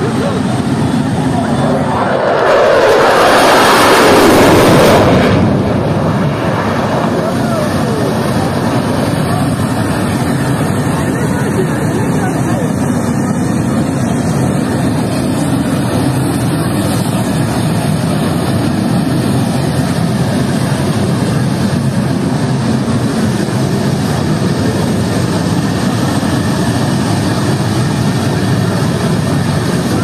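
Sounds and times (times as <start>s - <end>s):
distant jet roar: 0.0s - 30.0s.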